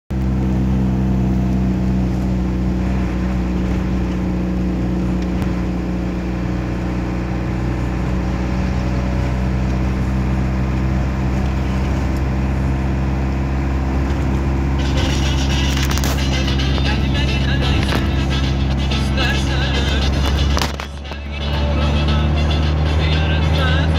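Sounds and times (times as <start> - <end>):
vehicle engine and road noise: 0.1 - 23.9.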